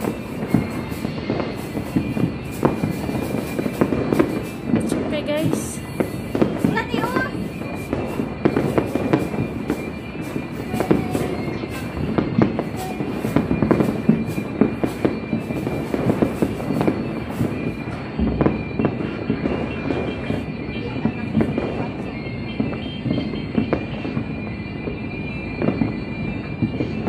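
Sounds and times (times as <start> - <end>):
deep firework thump: 0.0 - 22.0
fireworks popping and crackling: 0.0 - 27.0.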